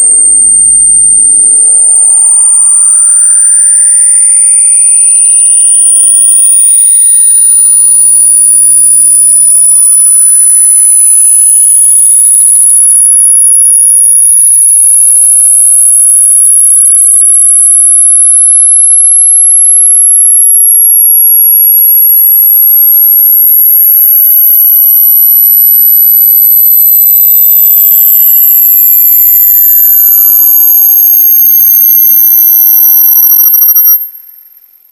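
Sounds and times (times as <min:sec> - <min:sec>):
shrill electronic sine tone: 0:00.0 - 0:34.9
sweeping electronic tones: 0:00.0 - 0:34.9.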